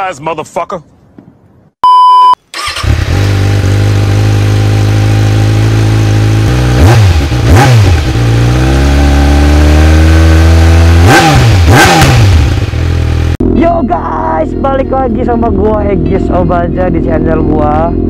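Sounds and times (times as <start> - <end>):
vehicle engine idling and revving: 2.6 - 13.7, 14.6 - 18.0.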